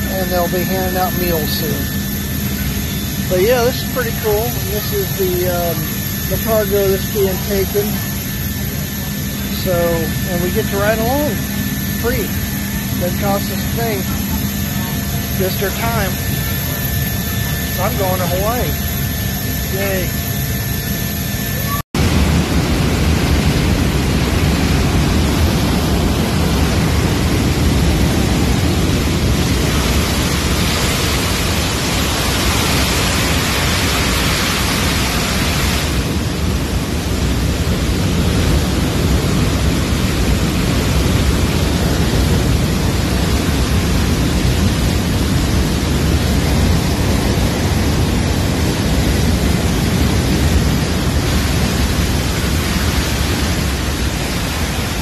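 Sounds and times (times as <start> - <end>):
deep rumble under wide hiss: 0.0 - 20.2, 22.0 - 55.0
aircraft turbine roar: 0.0 - 55.0.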